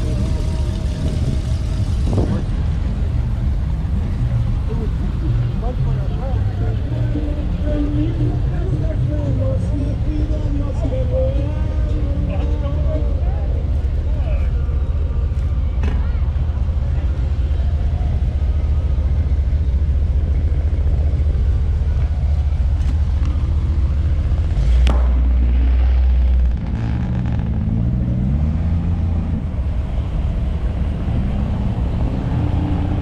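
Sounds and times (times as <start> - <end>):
car rumbling on the move: 0.0 - 33.0.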